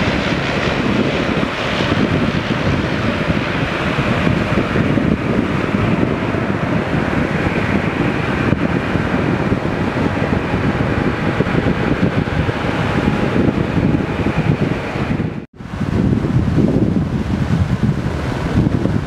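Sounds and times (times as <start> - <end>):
jet engine noise: 0.0 - 19.0
wind buffeting microphone: 0.0 - 19.0.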